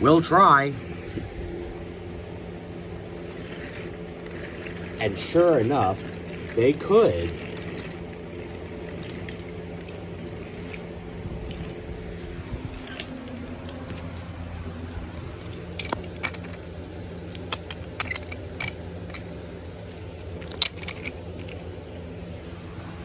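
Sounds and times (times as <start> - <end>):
low hum: 0.0 - 23.0
wooden toy trains rolling on track: 2.7 - 23.0.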